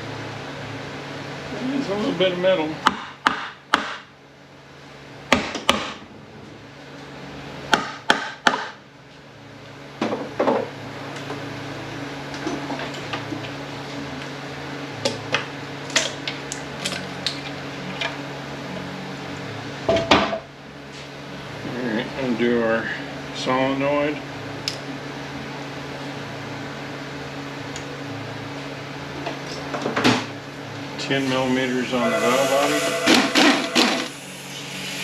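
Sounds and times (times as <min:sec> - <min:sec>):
steady low hum: 0:00.0 - 0:08.1, 0:08.8 - 0:35.0.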